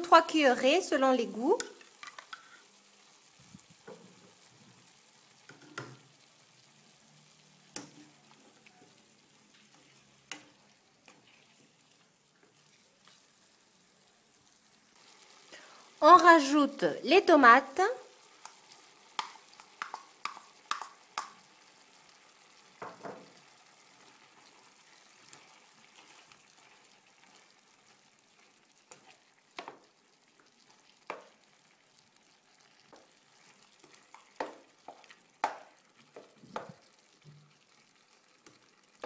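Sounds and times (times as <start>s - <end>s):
faint sauce sizzle: 0.0s - 39.0s.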